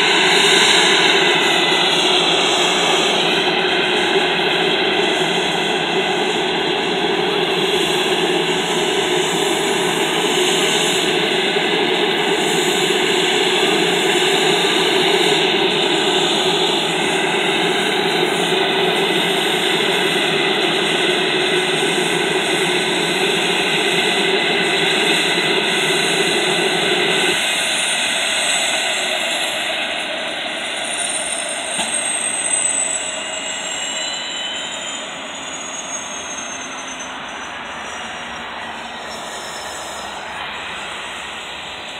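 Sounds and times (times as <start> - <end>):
helicopter turbine noise: 0.0 - 41.9.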